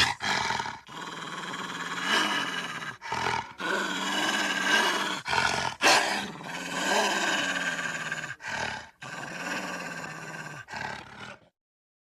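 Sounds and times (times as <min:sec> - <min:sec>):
cartoon wolf growling: 0:00.0 - 0:11.6.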